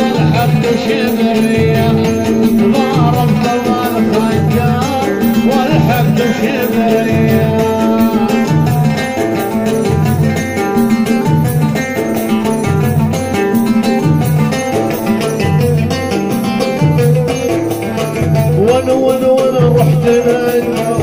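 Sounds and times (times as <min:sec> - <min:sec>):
plucked-string melody: 0:00.0 - 0:21.0
steady drum beat: 0:00.0 - 0:21.0.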